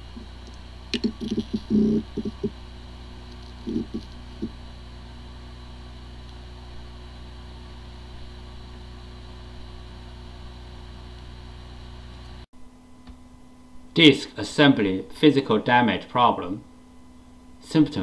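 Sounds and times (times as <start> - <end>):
hard drive humming: 0.0 - 15.2.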